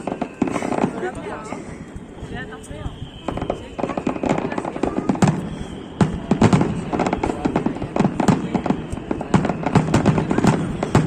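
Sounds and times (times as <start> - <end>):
firework bangs and crackles: 0.0 - 11.0.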